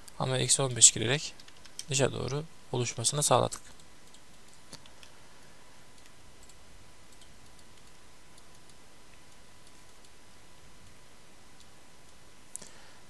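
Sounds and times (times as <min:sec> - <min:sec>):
microphone hiss: 0:00.0 - 0:13.0.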